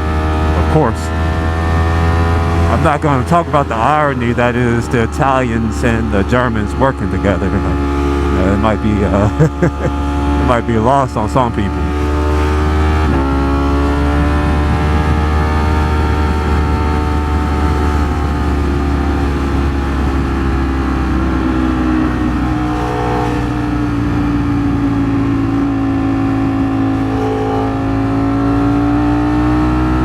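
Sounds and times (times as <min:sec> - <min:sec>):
low wind rumble: 0:00.0 - 0:30.0
motorcycle engine running: 0:00.0 - 0:30.0.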